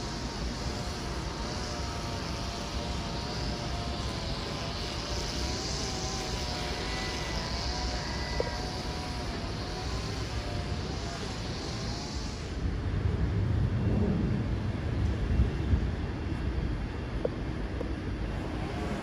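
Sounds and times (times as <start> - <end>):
electric train humming and rumbling: 0.0 - 19.0.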